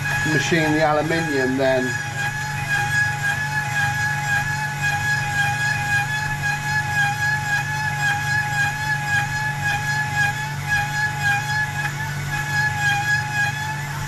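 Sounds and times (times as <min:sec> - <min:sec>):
cutting machine whining: 0:00.0 - 0:14.0.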